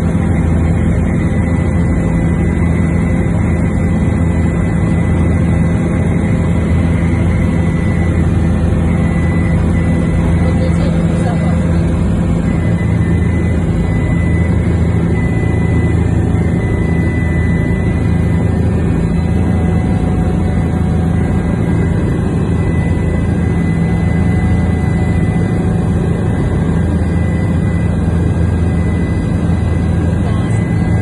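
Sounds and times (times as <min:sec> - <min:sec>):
helicopter engine and rotor drone: 0:00.0 - 0:31.0
thin steady whine: 0:00.0 - 0:31.0.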